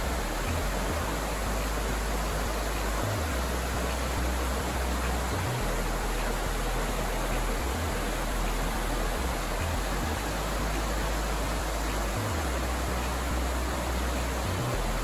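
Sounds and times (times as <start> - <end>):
creek rushing over stones: 0.0 - 15.0.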